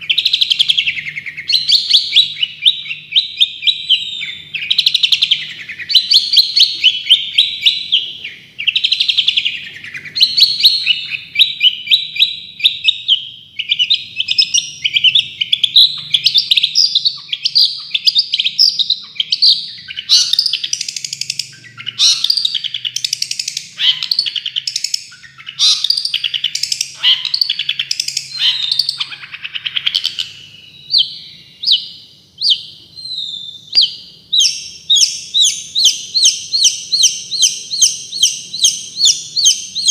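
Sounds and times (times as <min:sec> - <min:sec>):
songbird chattering: 0:00.0 - 0:39.9.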